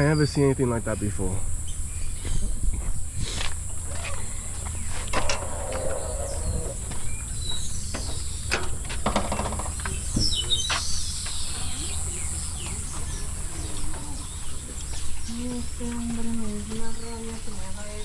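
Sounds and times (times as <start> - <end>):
steady high hiss: 0.0 - 17.2
birds calling and chirping: 0.0 - 18.0.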